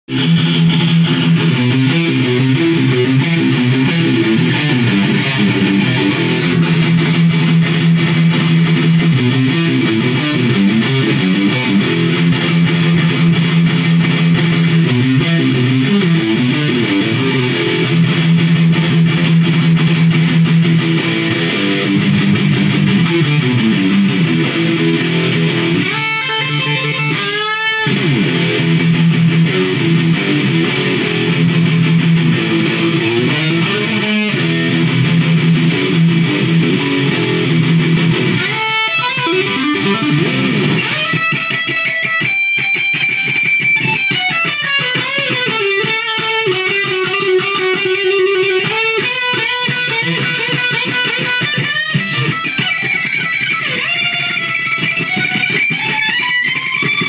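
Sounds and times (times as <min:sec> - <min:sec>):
electric guitar rock riffs: 0:00.0 - 0:57.0.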